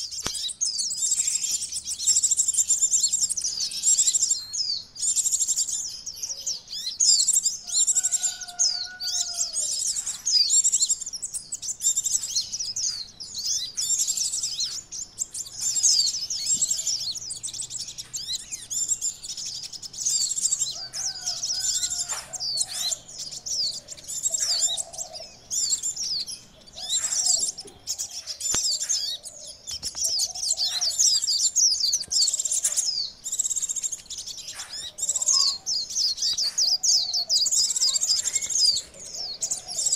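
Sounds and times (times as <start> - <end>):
softer lower bird calls: 0.0 - 39.9
sunbirds twittering: 0.0 - 39.9.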